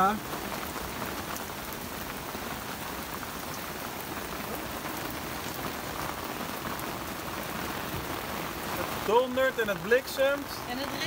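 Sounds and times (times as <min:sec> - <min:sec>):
hailstones ticking: 0:00.0 - 0:11.0
heavy rain on boat deck: 0:00.0 - 0:11.0.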